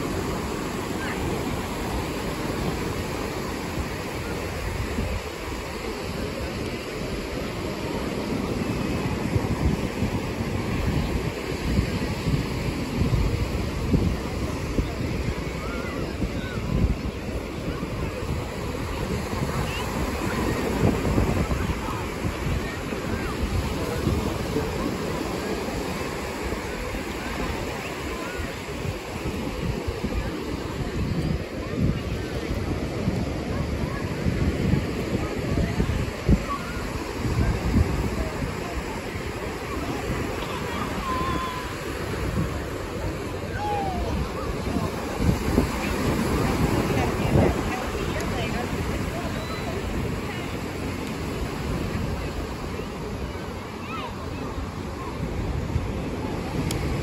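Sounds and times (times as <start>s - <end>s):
faint distant voices: 0.0s - 57.0s
ocean surf on beach: 0.0s - 57.0s
wind buffeting microphone: 0.0s - 57.0s.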